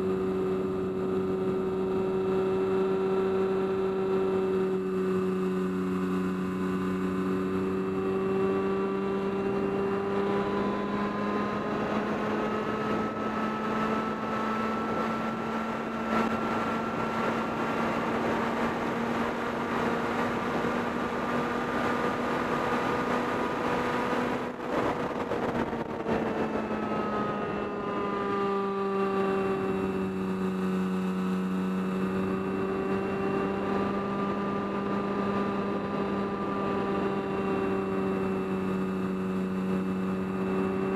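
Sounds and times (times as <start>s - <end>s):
model aircraft motor and propeller: 0.0s - 40.9s
rushing wind noise: 6.8s - 40.9s.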